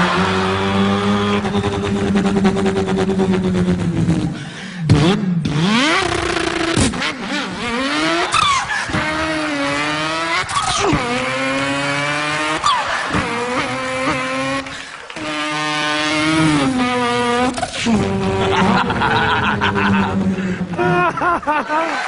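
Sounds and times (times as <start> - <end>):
man imitating car engine: 0.0 - 21.9.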